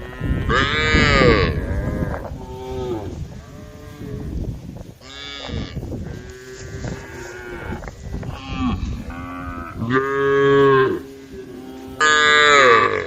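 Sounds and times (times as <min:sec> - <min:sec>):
cows mooing: 0:00.0 - 0:04.4, 0:05.0 - 0:13.0.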